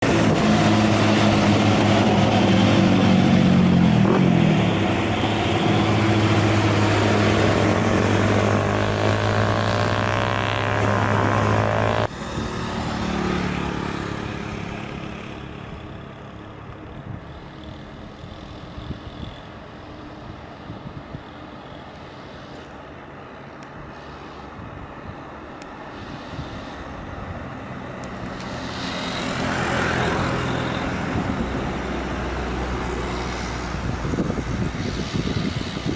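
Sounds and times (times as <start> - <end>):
road noise: 0.0 - 35.9
truck diesel engine labouring: 0.0 - 35.9.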